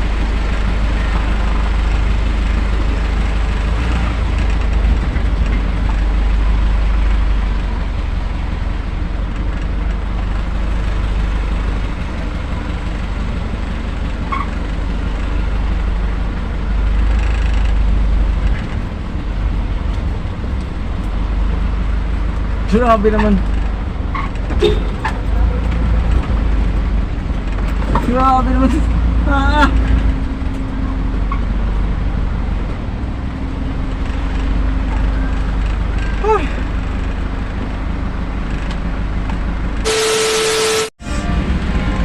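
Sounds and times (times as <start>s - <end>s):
road noise: 0.0s - 42.0s
truck engine rumble: 0.0s - 42.0s.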